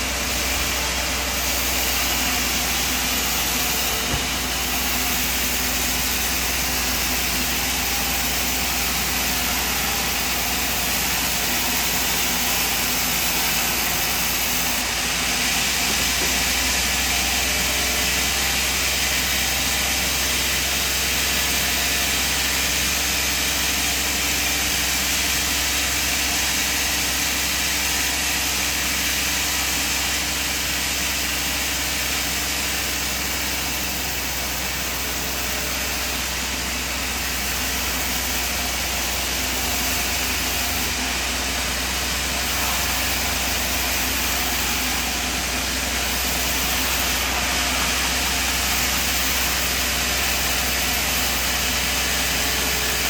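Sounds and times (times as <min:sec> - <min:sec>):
sawmill machinery hum: 0:00.0 - 0:53.0.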